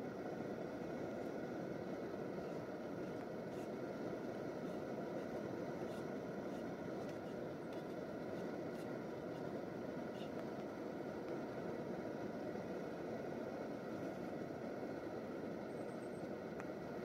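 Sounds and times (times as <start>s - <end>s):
low rushing background noise: 0.0s - 17.0s.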